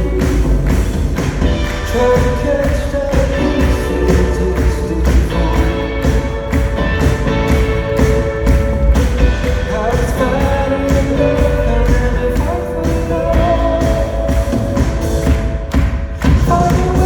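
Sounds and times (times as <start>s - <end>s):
live pop band playing: 0.0s - 17.0s
person singing: 0.0s - 17.0s.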